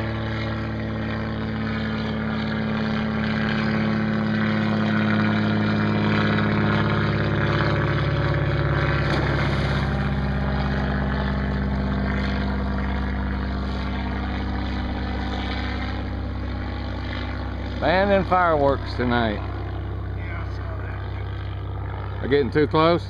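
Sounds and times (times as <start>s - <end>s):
small boat motor running: 0.0s - 23.0s.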